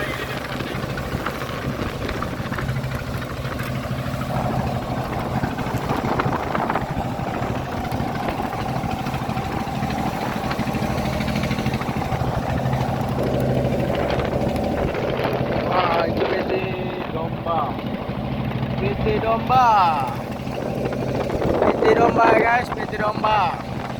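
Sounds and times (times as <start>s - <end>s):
boat engine running: 0.0s - 23.9s.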